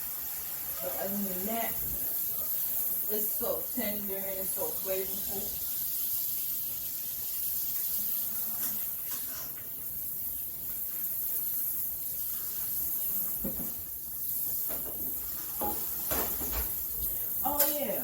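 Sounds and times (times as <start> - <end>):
steak sizzling in a frying pan: 0.0 - 18.0.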